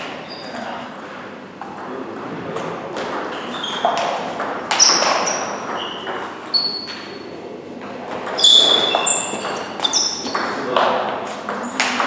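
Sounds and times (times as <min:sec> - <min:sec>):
table tennis ball hits: 0:00.0 - 0:07.2, 0:07.8 - 0:12.0.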